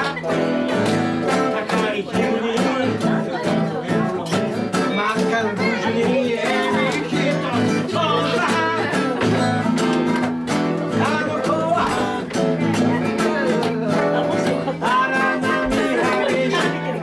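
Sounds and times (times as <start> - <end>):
acoustic guitar: 0.0 - 17.0
electric guitar: 0.0 - 17.0.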